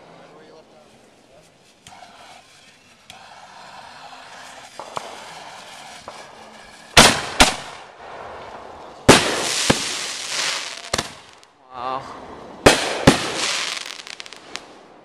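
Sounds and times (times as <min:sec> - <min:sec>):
fireworks bangs: 0:00.8 - 0:15.0
hissing firework burst: 0:00.8 - 0:15.0.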